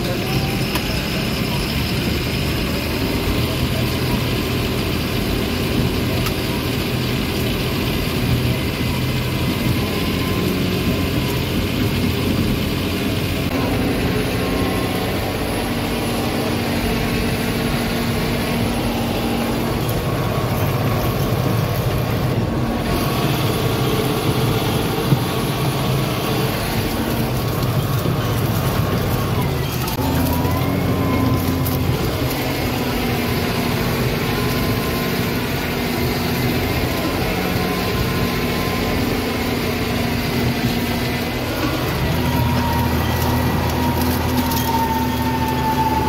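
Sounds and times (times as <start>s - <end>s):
tractor diesel engine under load: 0.0s - 46.0s.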